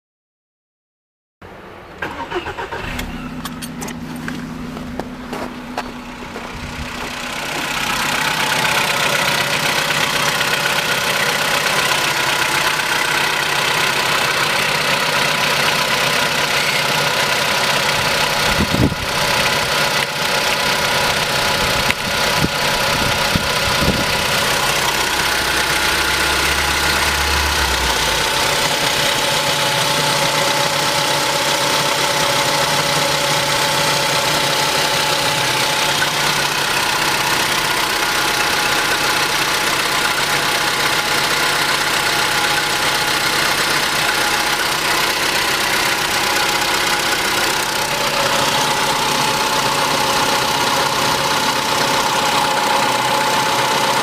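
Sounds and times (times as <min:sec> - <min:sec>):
car engine idling: 0:01.6 - 0:54.0.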